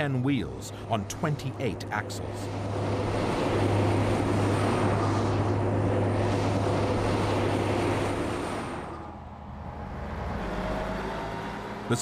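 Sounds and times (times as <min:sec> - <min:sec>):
broad rushing noise: 0:00.0 - 0:12.0
low engine drone: 0:00.0 - 0:12.0.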